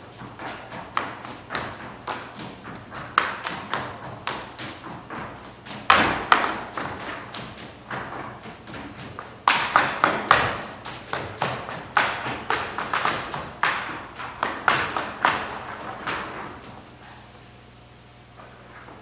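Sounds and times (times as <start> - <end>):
dancers slapping and stamping: 0.0 - 17.2.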